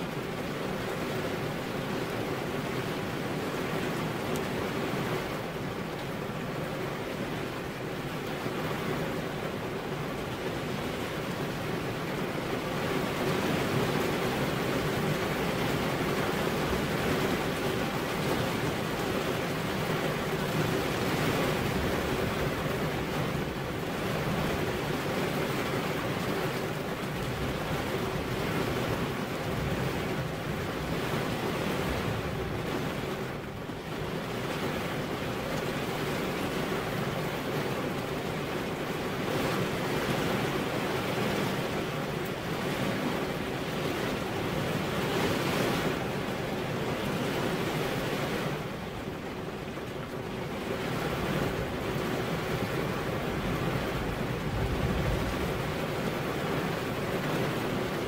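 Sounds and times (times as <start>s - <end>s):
rain on a window: 0.0s - 58.0s.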